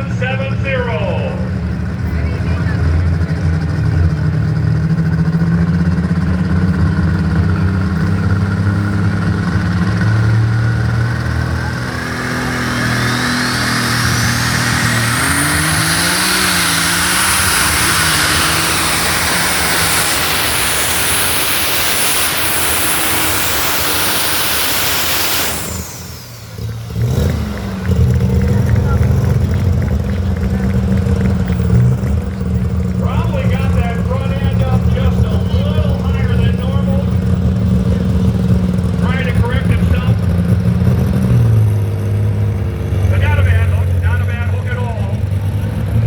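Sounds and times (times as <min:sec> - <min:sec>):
tractor engine roar: 0:00.0 - 0:46.0
turbocharger whine: 0:00.0 - 0:46.0.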